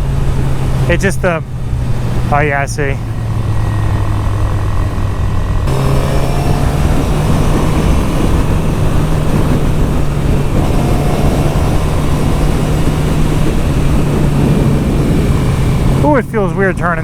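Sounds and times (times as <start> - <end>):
motorcycle engine cruising: 0.0 - 17.0
wind rush over microphone: 1.6 - 17.0.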